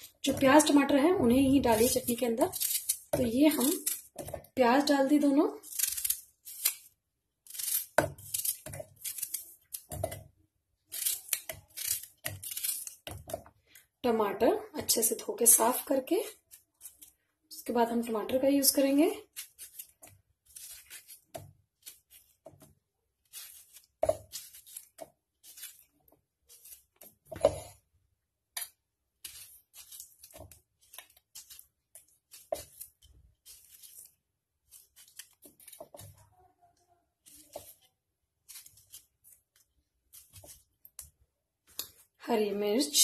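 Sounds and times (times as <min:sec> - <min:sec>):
knife slicing tomato: 0:00.0 - 0:13.6, 0:18.7 - 0:27.9, 0:28.5 - 0:36.4, 0:37.1 - 0:42.0.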